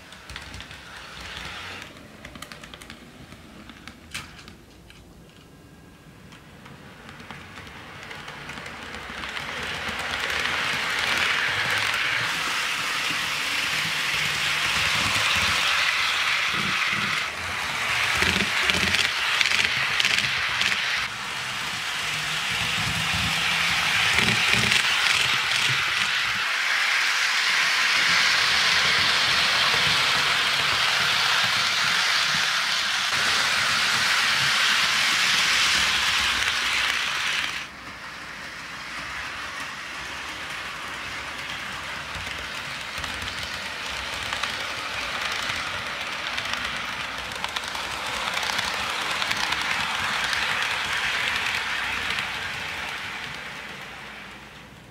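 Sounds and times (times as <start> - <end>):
model train wheels rolling on rails: 0.0 - 54.9.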